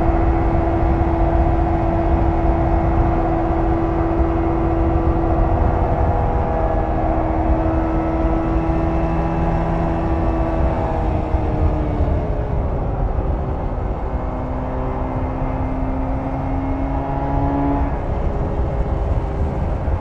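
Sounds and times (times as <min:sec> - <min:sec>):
low wind rumble: 0:00.0 - 0:20.0
motorcycle engine running: 0:00.0 - 0:20.0.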